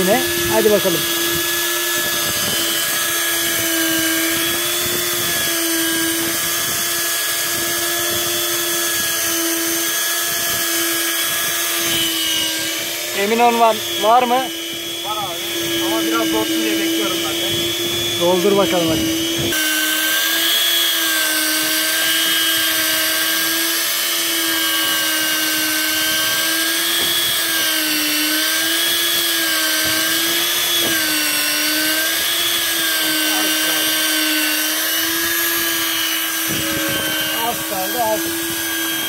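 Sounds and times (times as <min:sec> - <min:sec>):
fishing reel motor whining: 0:00.0 - 0:39.0.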